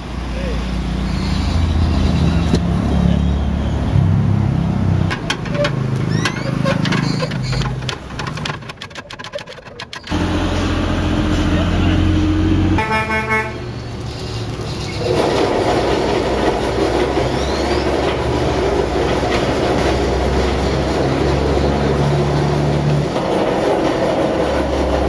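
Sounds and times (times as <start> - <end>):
loud mechanical rumble: 3.8 - 12.9, 13.9 - 25.0.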